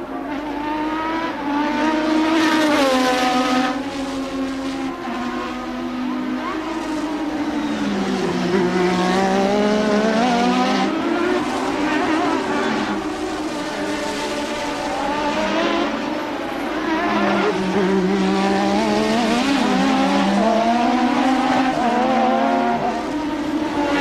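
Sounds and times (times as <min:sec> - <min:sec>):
racing car engine revving: 0:00.0 - 0:24.0.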